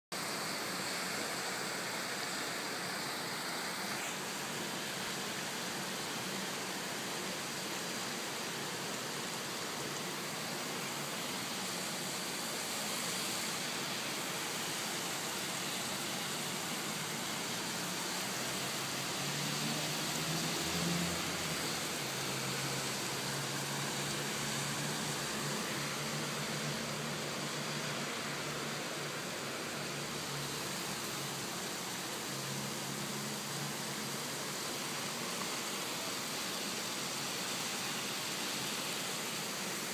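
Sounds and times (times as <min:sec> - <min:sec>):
rain falling: 0:00.2 - 0:39.9.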